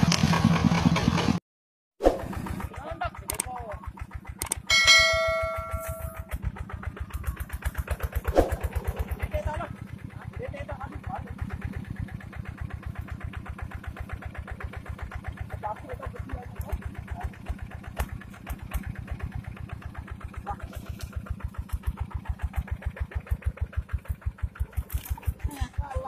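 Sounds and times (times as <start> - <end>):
diesel engine idling: 2.2 - 26.0.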